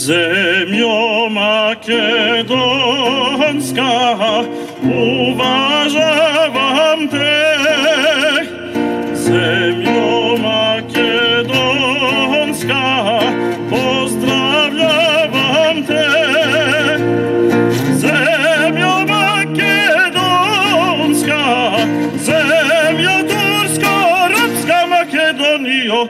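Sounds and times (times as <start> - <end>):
acoustic guitar: 0.0 - 26.0
man singing operatically: 0.0 - 26.0.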